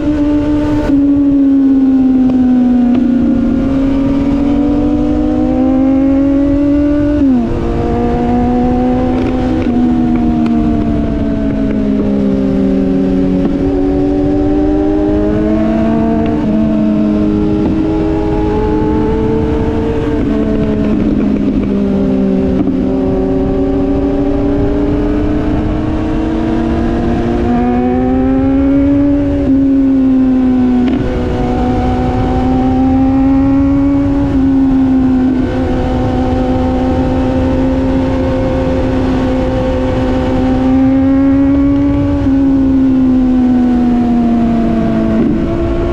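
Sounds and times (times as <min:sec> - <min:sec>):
motorcycle engine: 0:00.0 - 0:45.9
wind and road noise: 0:00.0 - 0:45.9.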